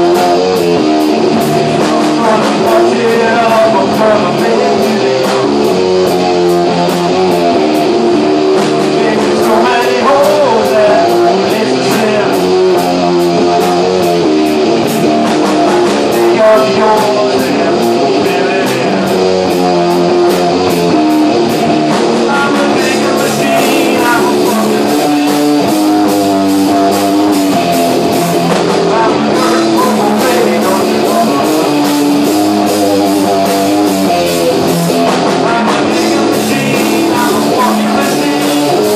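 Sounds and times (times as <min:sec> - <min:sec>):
drum kit beat: 0:00.0 - 0:38.9
electric guitar: 0:00.0 - 0:38.9
live rock band playing: 0:00.0 - 0:38.9.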